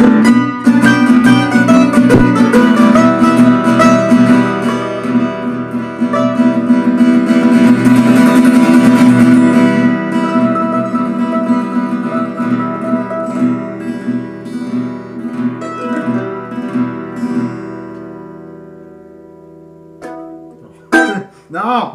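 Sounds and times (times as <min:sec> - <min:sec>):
acoustic guitars playing: 0:00.0 - 0:21.9.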